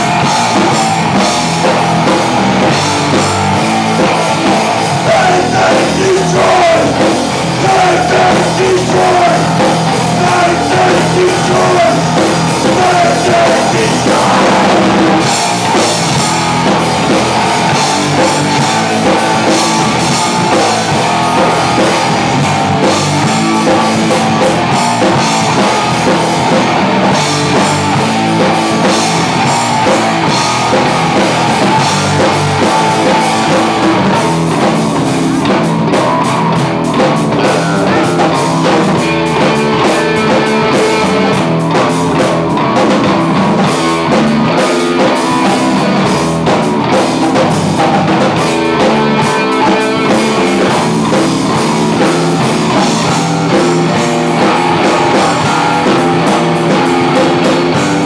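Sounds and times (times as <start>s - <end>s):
drum kit with cymbals: 0.0s - 58.0s
rock band playing live: 0.0s - 58.0s.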